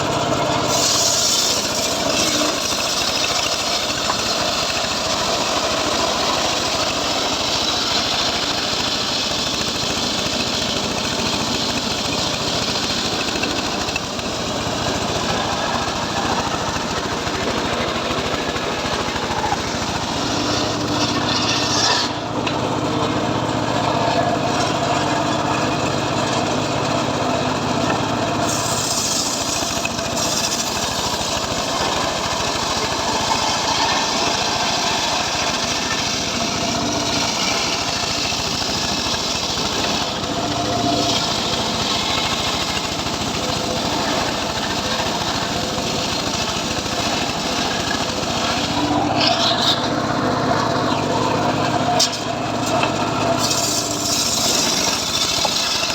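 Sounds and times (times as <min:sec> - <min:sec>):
circular saw cutting wood: 0:00.0 - 0:55.9.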